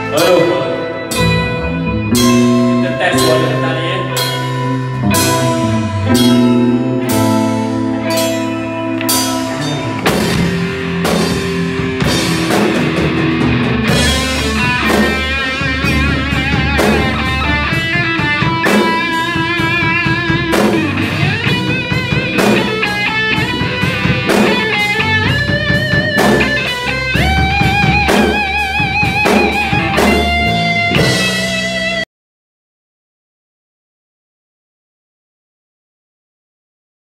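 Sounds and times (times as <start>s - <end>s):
electric guitar solo: 0.0s - 32.0s
rock drum kit: 0.0s - 32.0s.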